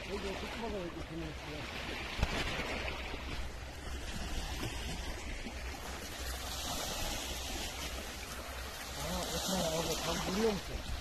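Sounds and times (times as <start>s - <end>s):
sea water washing against rocks: 0.0s - 11.0s.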